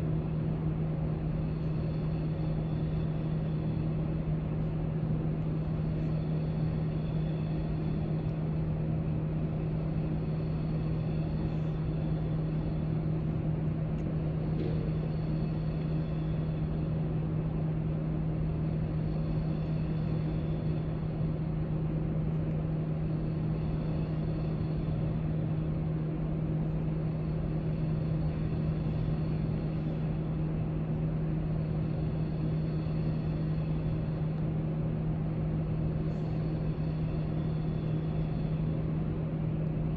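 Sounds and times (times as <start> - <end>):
low room hum: 0.0 - 39.9.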